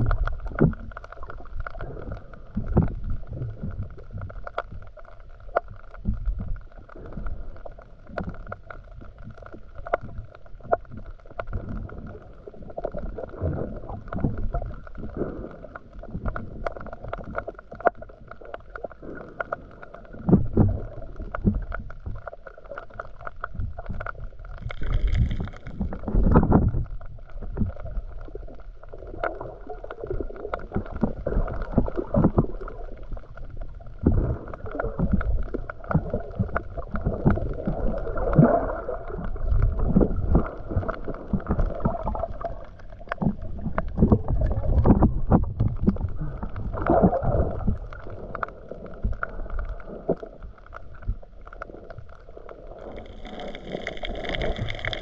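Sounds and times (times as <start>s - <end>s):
muffled underwater water movement: 0.0s - 55.0s
small underwater clicks and pops: 0.0s - 55.0s.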